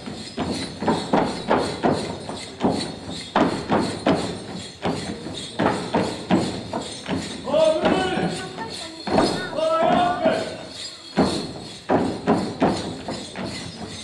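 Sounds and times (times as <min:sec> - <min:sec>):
feet stamping on stage: 0:00.0 - 0:14.0.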